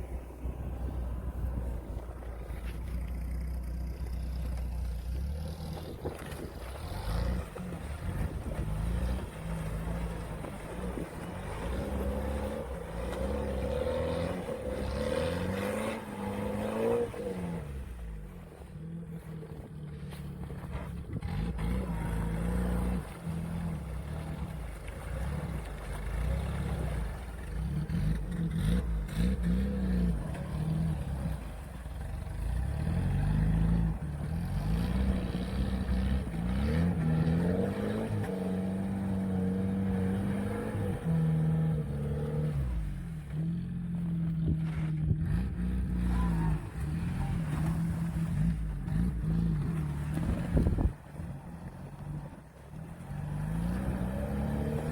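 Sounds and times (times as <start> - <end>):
off-road vehicle engine revving: 0.0 - 54.9.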